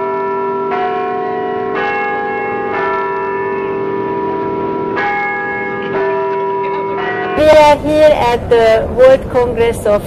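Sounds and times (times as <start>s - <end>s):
bells ringing: 0.0s - 9.2s.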